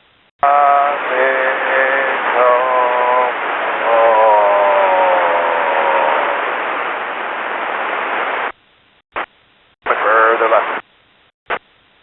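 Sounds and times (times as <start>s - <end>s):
jet cockpit hiss and whine: 0.0s - 12.0s.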